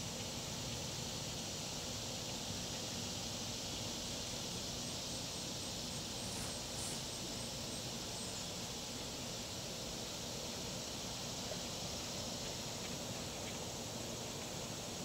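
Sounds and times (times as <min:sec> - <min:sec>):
high-pitched outdoor hiss: 0:00.0 - 0:15.0.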